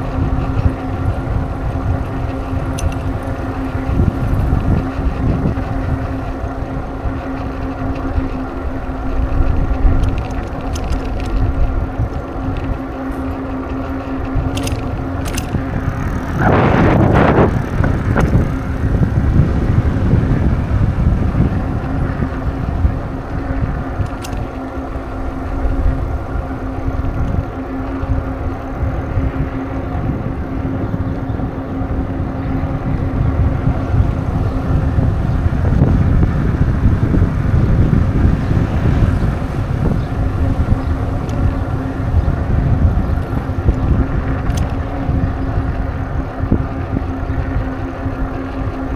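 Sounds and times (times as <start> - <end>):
constant hum: 0.0 - 48.9
low road rumble: 0.0 - 48.9
wind on microphone: 0.0 - 48.9.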